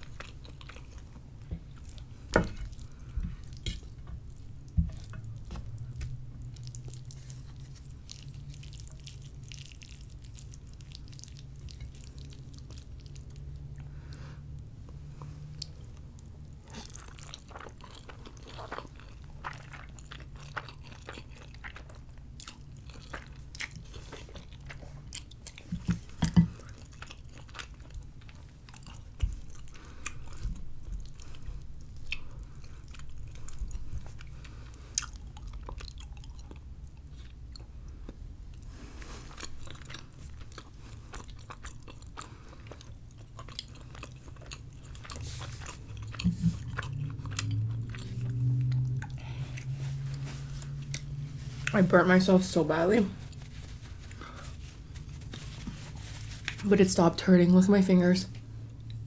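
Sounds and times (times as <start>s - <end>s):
close chewing with mouth clicks: 0.0s - 56.9s.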